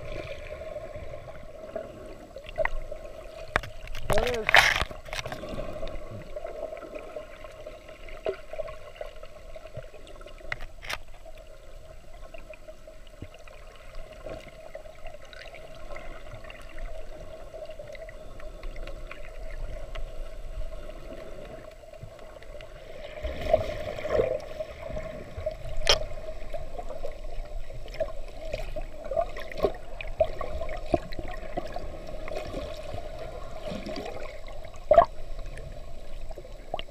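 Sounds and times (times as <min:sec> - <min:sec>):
muffled underwater water sloshing: 0:00.0 - 0:36.9.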